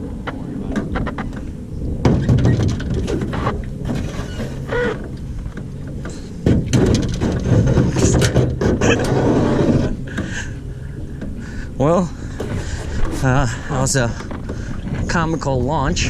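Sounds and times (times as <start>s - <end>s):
boat knocking and clattering: 0.0s - 16.0s
wind buffeting microphone: 0.0s - 16.0s.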